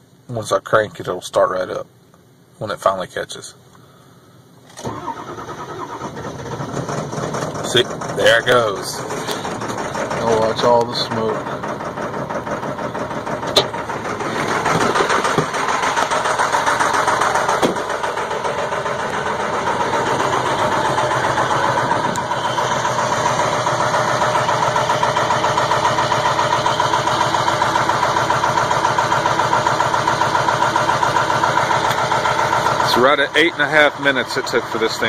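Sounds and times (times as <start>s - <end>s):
diesel engine idling: 3.6s - 35.0s
sharp engine clicks: 4.7s - 34.9s.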